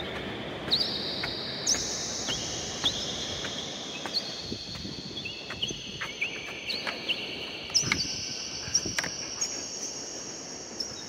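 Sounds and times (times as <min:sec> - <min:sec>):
footsteps on paving stones: 0:00.0 - 0:09.6.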